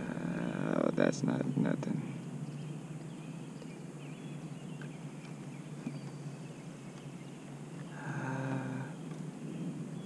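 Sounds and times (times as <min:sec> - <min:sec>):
faint birds chirping: 0:00.0 - 0:10.0
low outdoor hum: 0:00.0 - 0:10.0.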